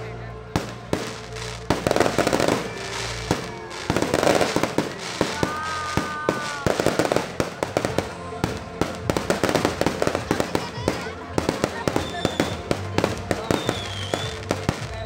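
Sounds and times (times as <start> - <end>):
fireworks bangs and crackling: 0.6 - 15.0.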